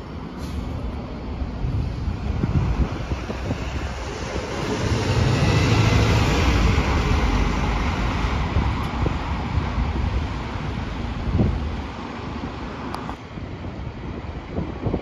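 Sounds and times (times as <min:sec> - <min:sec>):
bus passing by: 0:00.0 - 0:15.0.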